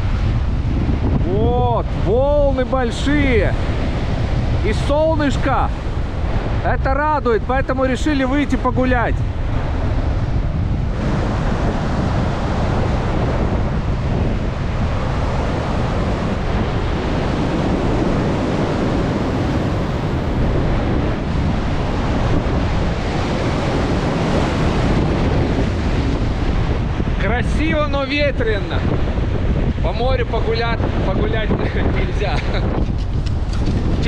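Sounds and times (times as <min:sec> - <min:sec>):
heavy storm surf: 0:00.0 - 0:34.0
wind buffeting microphone: 0:00.0 - 0:34.0.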